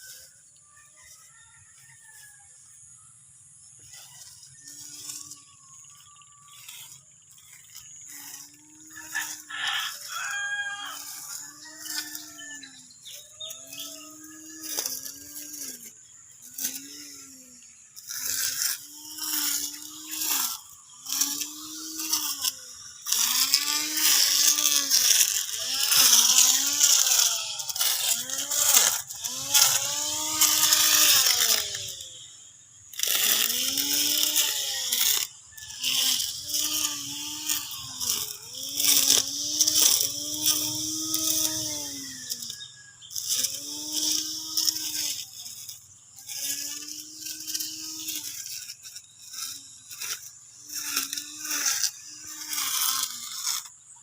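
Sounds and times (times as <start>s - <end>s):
electric lawn mower motor whine: 0.0s - 54.0s.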